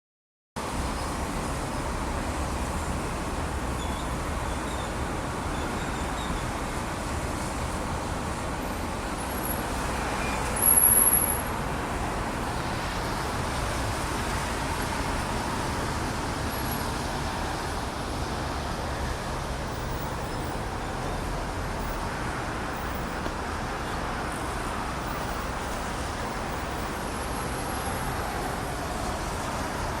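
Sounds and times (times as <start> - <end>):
rain on wet street: 0.6 - 30.0
tyres hissing on wet road: 0.6 - 30.0.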